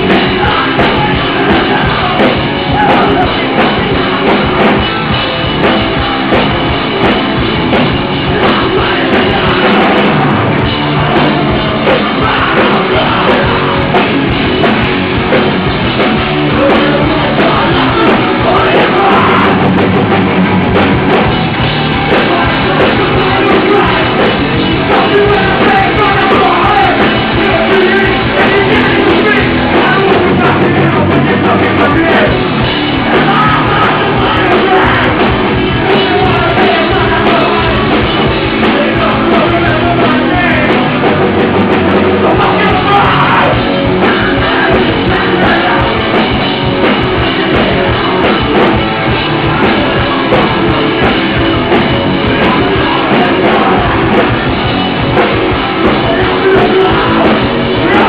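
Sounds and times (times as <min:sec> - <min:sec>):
shouted vocals: 0:00.0 - 0:06.4, 0:08.2 - 0:14.8, 0:16.5 - 0:20.0, 0:21.9 - 0:58.0
distorted electric guitars: 0:00.0 - 0:58.0
fast drums: 0:00.0 - 0:58.0.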